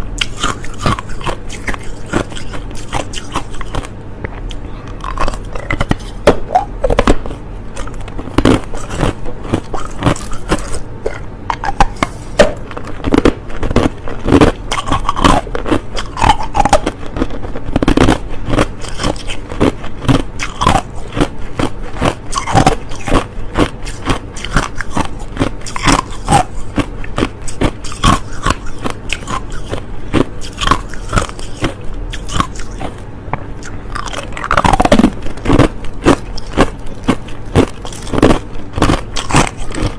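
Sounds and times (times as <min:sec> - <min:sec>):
person crunching ice: 0:00.2 - 0:03.9, 0:04.5 - 0:33.0, 0:33.9 - 0:39.9.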